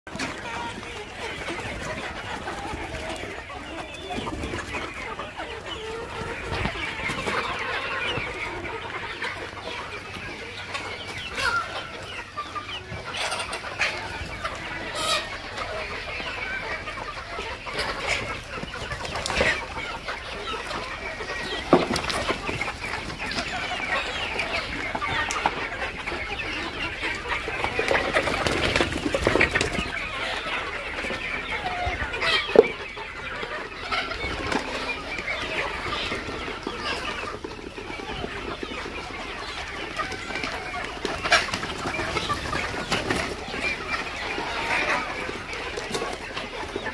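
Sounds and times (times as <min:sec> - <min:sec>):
chickens clucking: 0:00.1 - 0:46.9.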